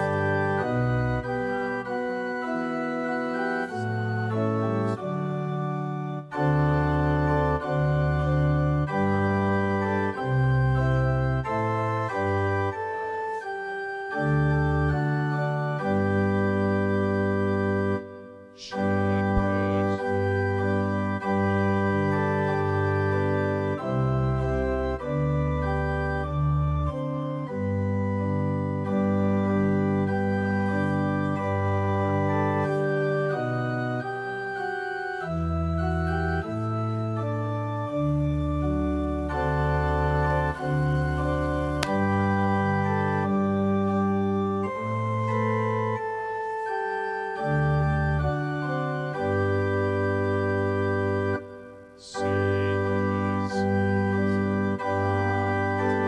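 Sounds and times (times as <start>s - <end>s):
keyboard organ hymn chords: 0.0s - 56.0s.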